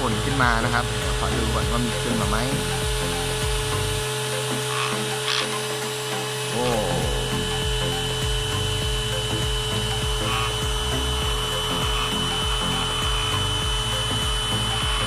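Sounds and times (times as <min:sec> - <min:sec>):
handheld vacuum cleaner running: 0:00.0 - 0:15.0.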